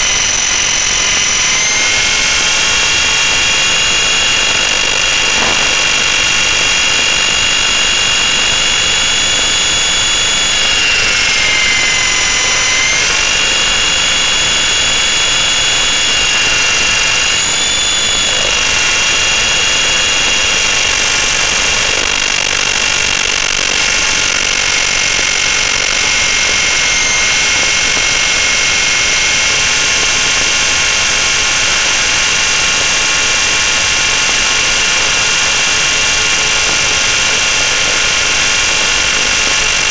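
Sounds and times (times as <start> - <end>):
helicopter motor whine: 0.0 - 39.9.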